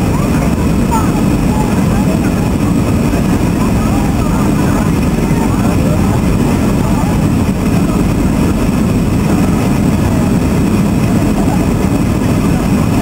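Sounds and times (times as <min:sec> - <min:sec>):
jet engine rumble in cabin: 0:00.0 - 0:13.0.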